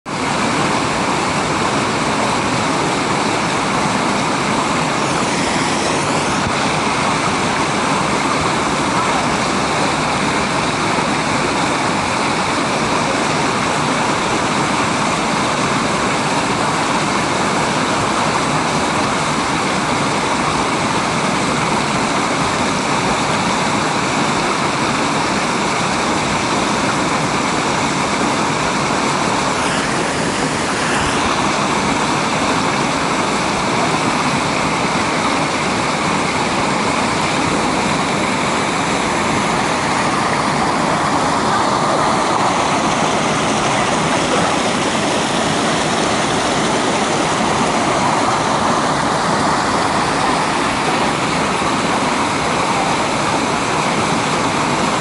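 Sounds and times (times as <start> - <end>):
waterfall rushing: 0.1 - 55.0.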